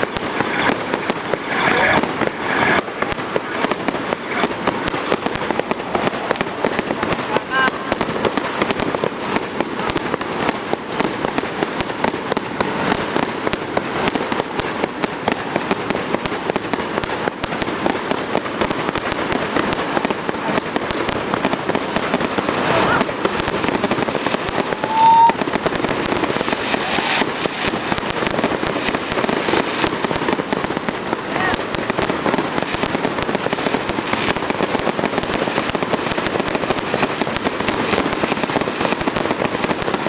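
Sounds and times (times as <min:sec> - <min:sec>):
firework whistling: 0:00.0 - 0:40.0
fireworks bangs and crackles: 0:00.0 - 0:40.0.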